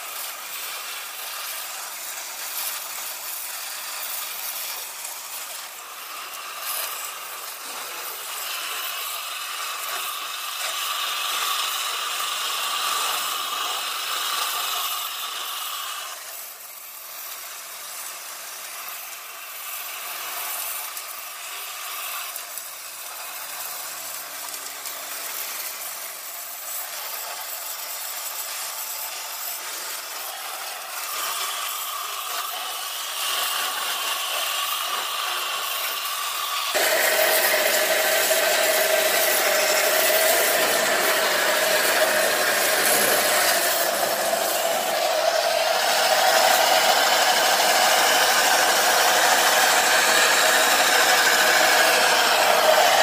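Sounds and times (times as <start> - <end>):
sandblasting spray hiss: 0.0 - 53.0.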